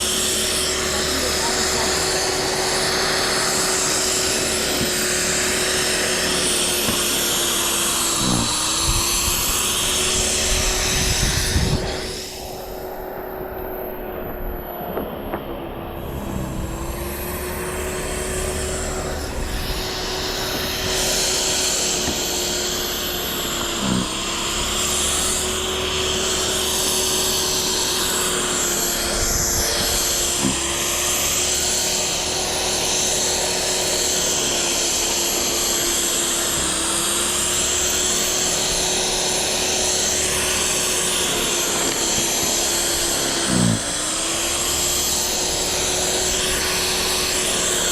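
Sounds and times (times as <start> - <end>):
mechanical rush: 0.0 - 47.9
small engine running: 0.0 - 47.9.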